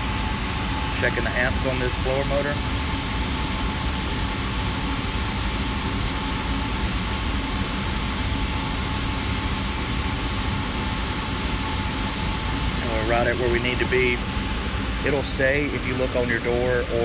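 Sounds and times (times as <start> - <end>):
furnace blower rumbling: 0.0 - 17.0.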